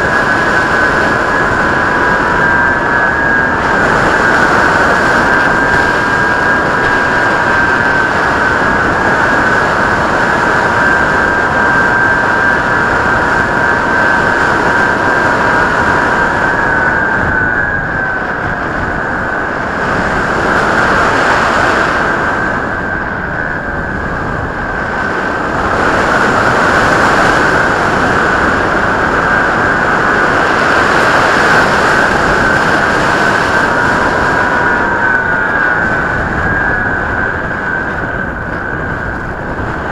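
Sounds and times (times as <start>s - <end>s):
electric motor and propeller whining: 0.0s - 39.9s
wind rushing: 0.0s - 39.9s.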